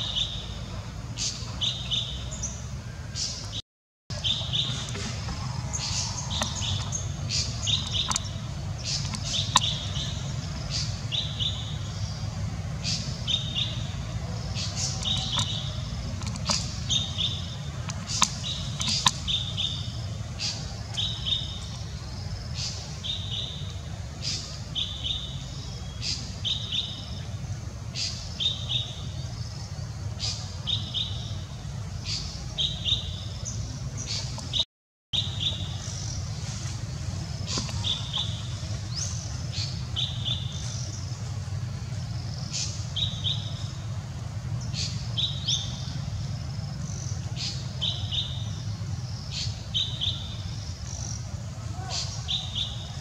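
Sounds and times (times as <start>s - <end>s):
bird chirping call: 0.0s - 34.6s, 35.2s - 53.0s
steady low rumble: 4.1s - 34.6s, 35.2s - 53.0s.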